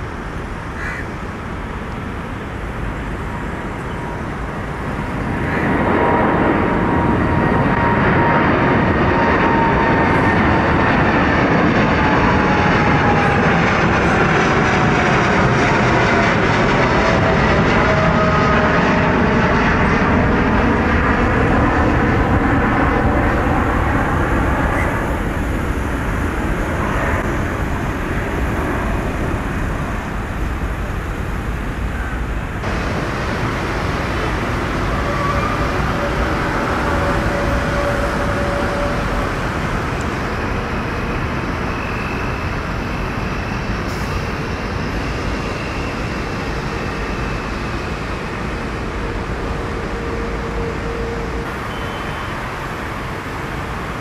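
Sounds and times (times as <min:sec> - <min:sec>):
airliner rolling on wet runway: 0:00.0 - 0:54.0
jet engines rumbling: 0:00.0 - 0:54.0.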